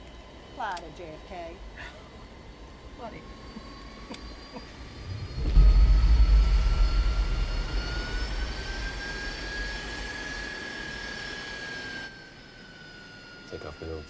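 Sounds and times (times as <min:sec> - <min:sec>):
jet engine low rumble: 0:00.0 - 0:14.0
turbine whine: 0:00.0 - 0:14.0.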